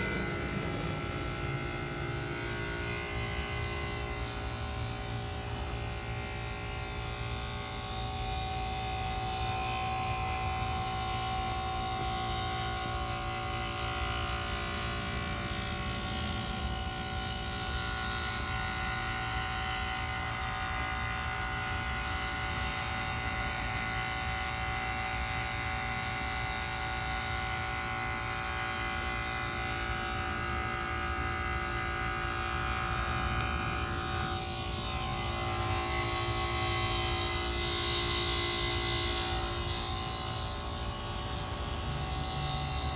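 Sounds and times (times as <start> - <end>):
heat pump humming: 0.0 - 42.9.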